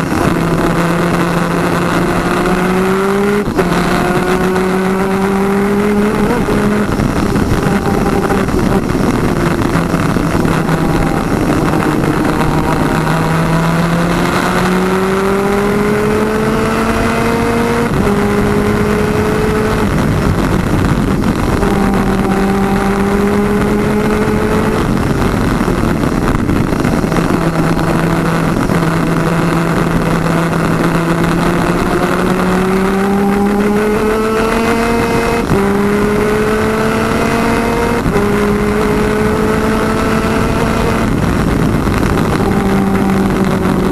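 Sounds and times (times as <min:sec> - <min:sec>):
steady rushing noise: 0:00.0 - 0:43.9
two-stroke kart engine racing: 0:00.0 - 0:43.9.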